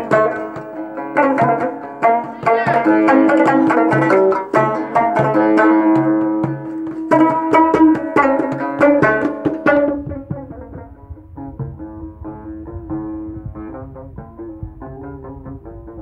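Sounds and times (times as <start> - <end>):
frame drum strokes: 0.0 - 16.0
plucked-string melody: 0.0 - 16.0.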